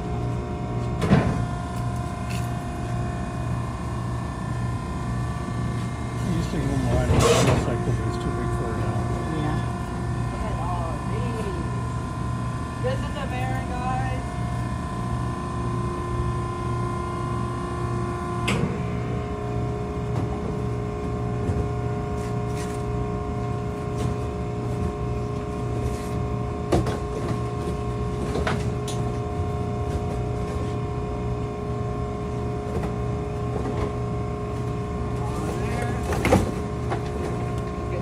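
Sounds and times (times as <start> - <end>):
hydraulic power unit humming: 0.0 - 38.0.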